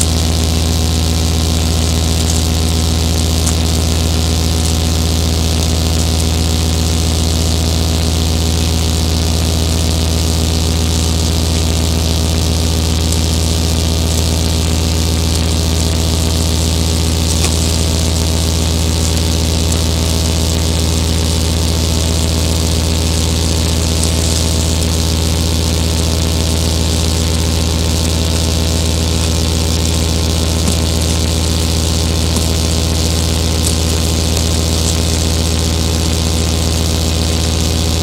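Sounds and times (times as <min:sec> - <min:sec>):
synthesizer drone: 0:00.0 - 0:38.0.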